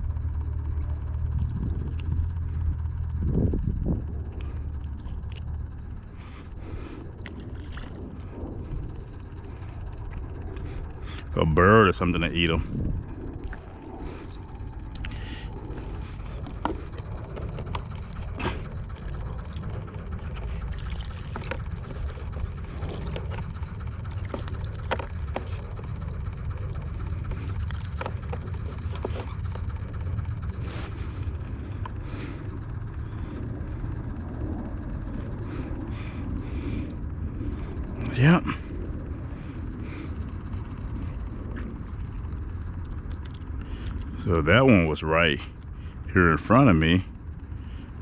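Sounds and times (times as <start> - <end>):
wind rumbling on microphone: 0.0 - 48.0.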